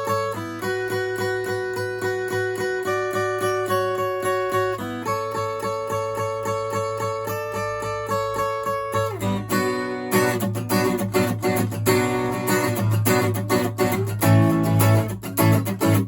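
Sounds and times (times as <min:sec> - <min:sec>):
acoustic guitar picking and strumming: 0:00.0 - 0:16.0.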